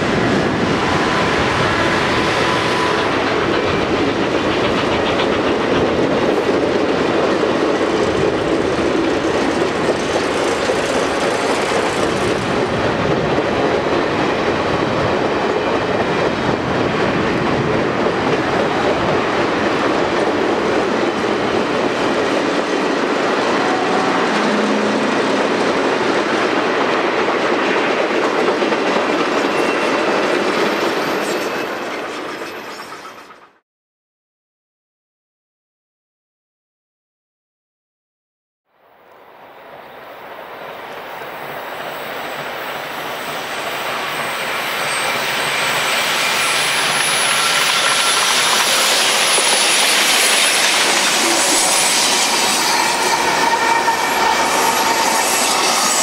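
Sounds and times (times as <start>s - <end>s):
train cars rolling on rails: 0.0s - 33.6s, 39.4s - 56.0s.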